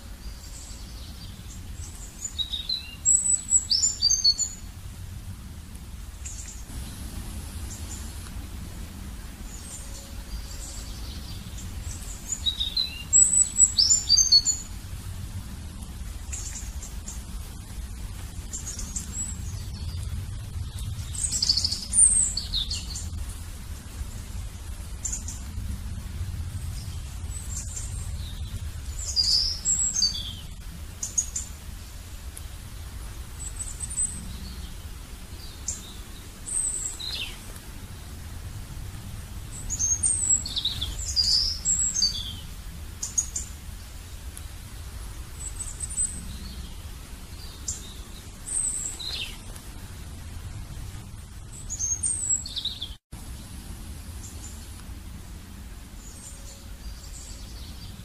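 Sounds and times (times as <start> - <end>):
low steady rumble: 0.0 - 58.0
small birds chirping: 0.0 - 58.0.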